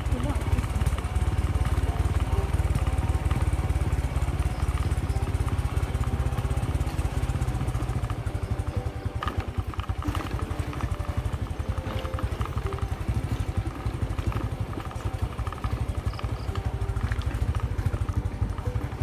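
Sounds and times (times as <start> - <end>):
small motorcycle engine running: 0.0 - 19.0.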